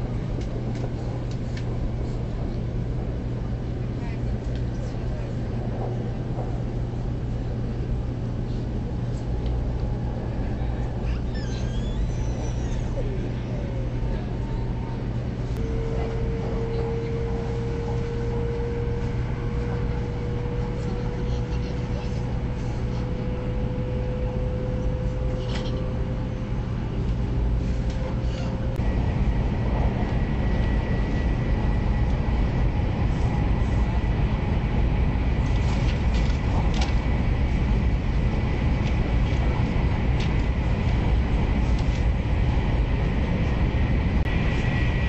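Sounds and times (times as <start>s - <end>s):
train rumble inside carriage: 0.0s - 45.0s.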